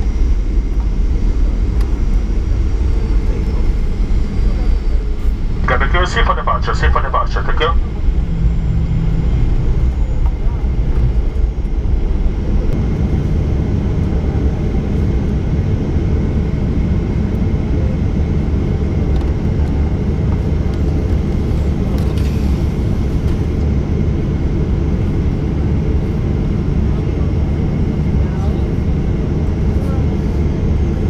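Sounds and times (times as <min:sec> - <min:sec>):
jet engines rumbling: 0:00.0 - 0:31.0
thin engine whine: 0:00.0 - 0:31.0.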